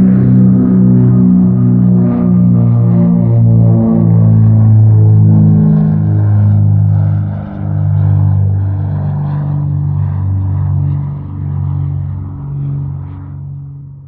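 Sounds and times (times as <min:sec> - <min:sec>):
propeller airplane engine droning: 0:00.0 - 0:14.0.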